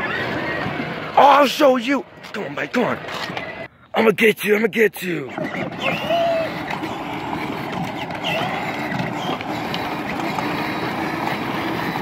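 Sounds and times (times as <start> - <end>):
bicycle rolling on asphalt: 0.0 - 3.7, 5.5 - 12.0.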